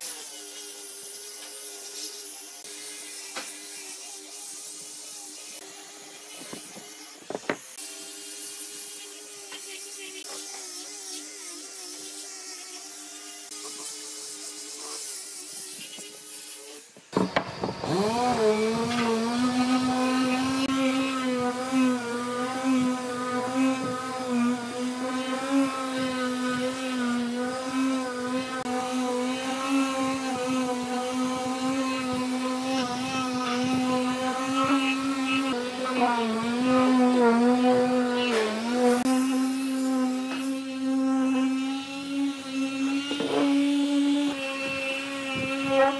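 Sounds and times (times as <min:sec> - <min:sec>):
orbital sander sanding wood: 0:00.0 - 0:45.9.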